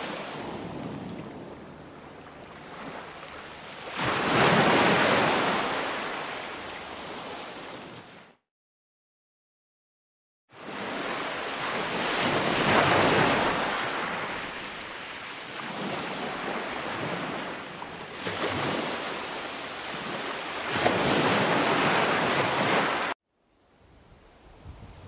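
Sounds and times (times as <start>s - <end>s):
sea waves breaking on beach: 0.0s - 8.4s, 10.5s - 23.2s.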